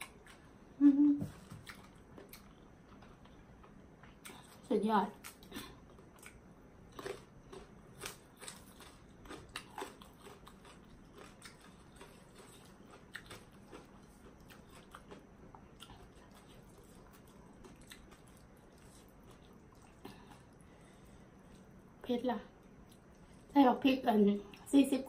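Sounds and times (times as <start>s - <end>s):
person chewing food: 1.3s - 21.8s.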